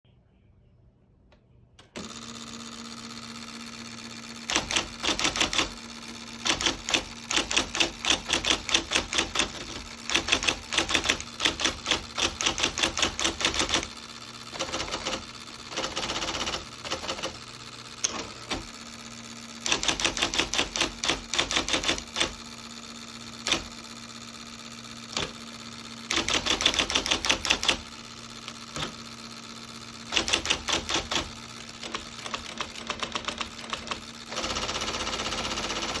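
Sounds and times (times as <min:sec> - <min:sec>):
electric typewriter keystrokes: 0:01.8 - 0:36.0
typewriter motor humming: 0:01.8 - 0:36.0.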